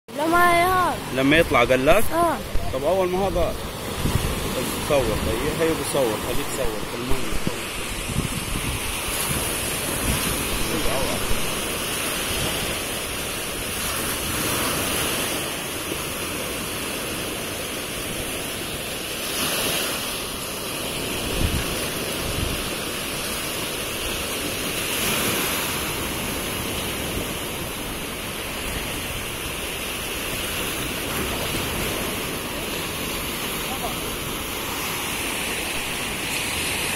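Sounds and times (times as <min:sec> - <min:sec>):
small waves breaking on beach: 0:00.1 - 0:36.9
wind on microphone: 0:01.9 - 0:17.4, 0:20.8 - 0:36.9.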